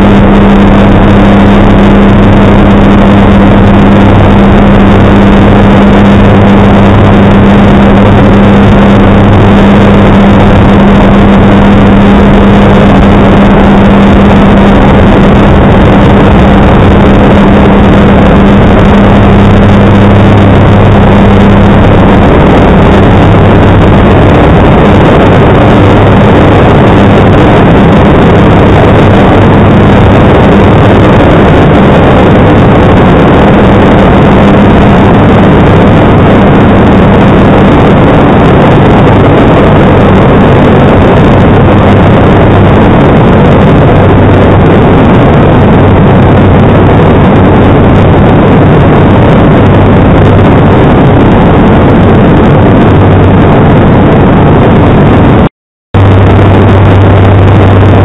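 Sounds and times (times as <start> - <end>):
propeller engine drone from cabin: 0.0 - 58.0.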